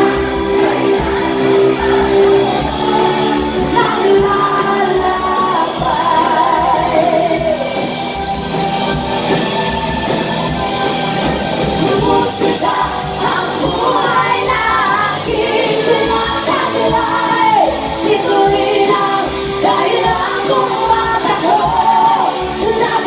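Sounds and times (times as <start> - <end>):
women singing: 0.0 - 7.8, 11.8 - 23.0
bass guitar: 0.0 - 23.0
electric guitar: 0.0 - 23.0.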